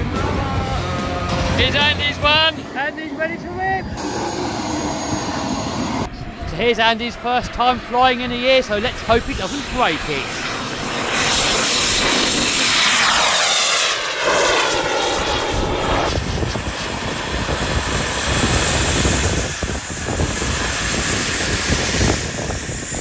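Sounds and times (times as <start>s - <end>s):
model jet turbine whine: 1.2s - 23.0s.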